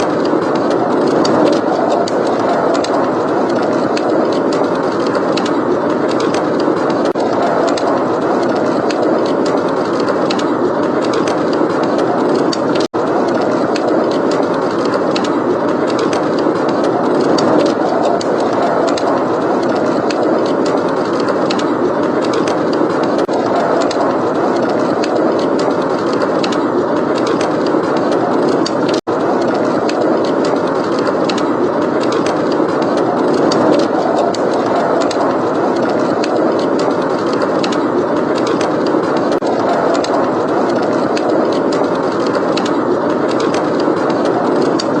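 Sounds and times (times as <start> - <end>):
fireplace crackling: 0.0 - 45.0
rushing blizzard wind: 0.0 - 45.0.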